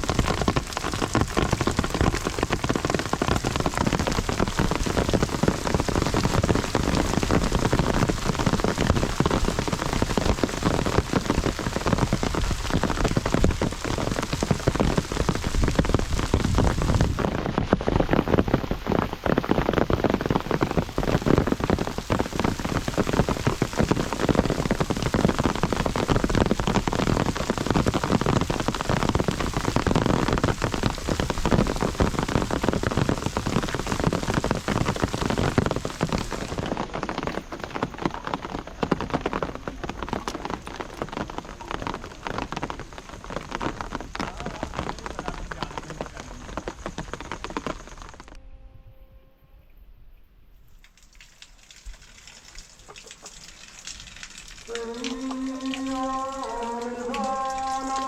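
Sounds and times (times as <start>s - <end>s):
heavy rain: 0.0s - 48.4s, 50.8s - 58.0s.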